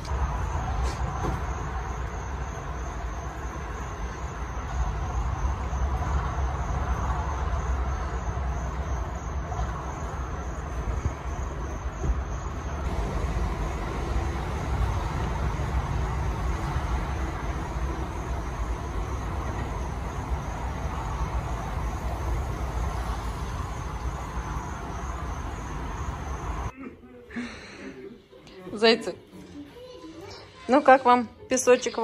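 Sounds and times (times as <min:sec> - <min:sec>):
car engine rumble: 0:00.0 - 0:26.7.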